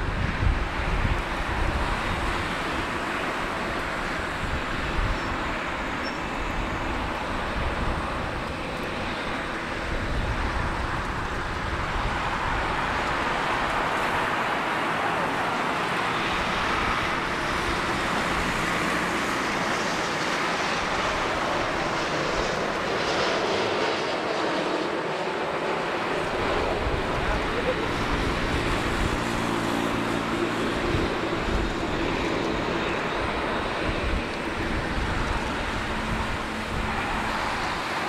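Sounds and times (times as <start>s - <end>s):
wind buffeting microphone: 0.0s - 24.0s, 25.9s - 38.0s
jet engines overhead: 0.0s - 38.0s.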